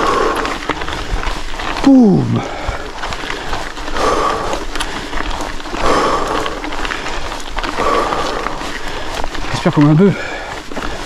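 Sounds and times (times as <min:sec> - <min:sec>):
bike clicks and rattles: 0:00.0 - 0:11.0
person panting hard: 0:00.0 - 0:11.0.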